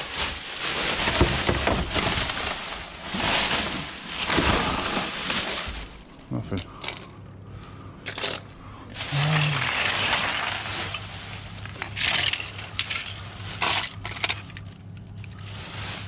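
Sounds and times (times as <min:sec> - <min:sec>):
plastic bags rustling: 0:00.0 - 0:07.1, 0:08.1 - 0:16.0.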